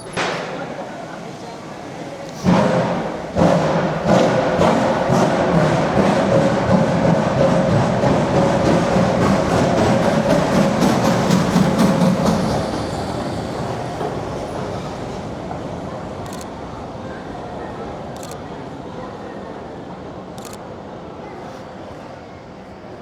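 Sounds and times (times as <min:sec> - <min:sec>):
steam train running past: 0:00.0 - 0:23.0.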